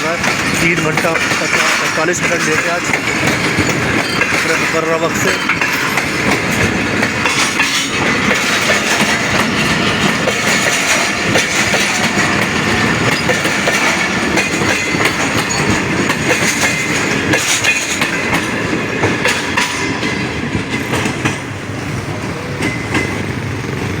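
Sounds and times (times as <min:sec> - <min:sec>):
train wheels clicking over rail joints: 0:00.0 - 0:24.0.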